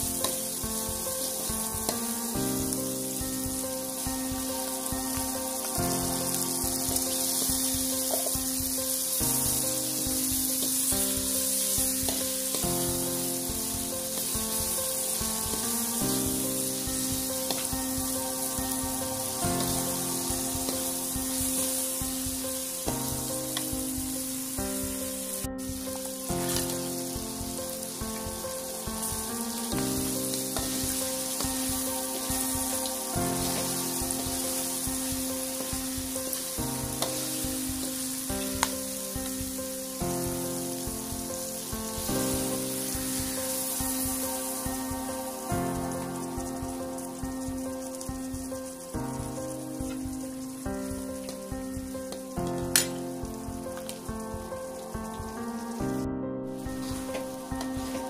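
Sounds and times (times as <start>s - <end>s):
background music: 0.0s - 58.0s
food sizzling in a wok: 0.0s - 58.0s.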